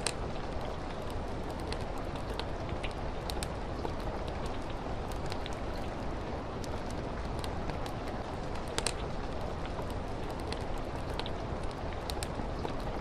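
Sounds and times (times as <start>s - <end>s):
fire crackling: 0.0s - 13.0s
rain on a window: 0.0s - 13.0s.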